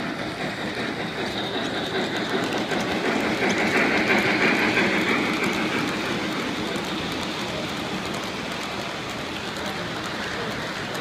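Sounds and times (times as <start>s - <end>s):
model train wheels clicking: 0.0s - 11.0s.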